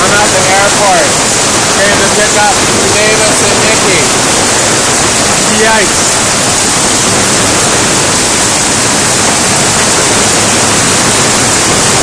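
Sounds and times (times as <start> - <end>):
hail falling hard: 0.0 - 12.0.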